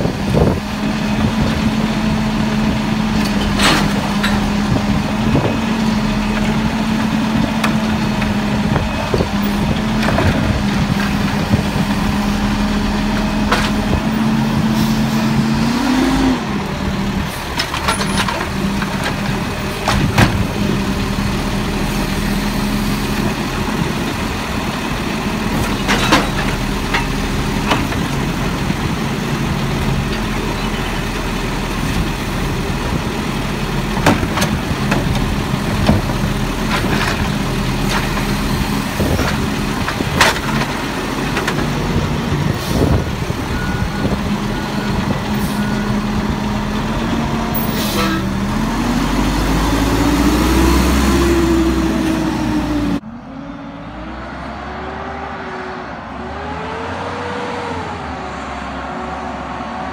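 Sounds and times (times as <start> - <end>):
garbage truck engine running: 0.0 - 53.4.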